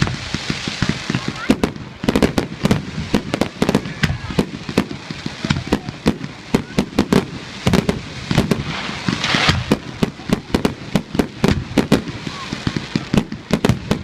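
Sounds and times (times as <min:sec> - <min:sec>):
fireworks bursting: 0:00.0 - 0:14.0
rush of hiss: 0:00.0 - 0:14.0.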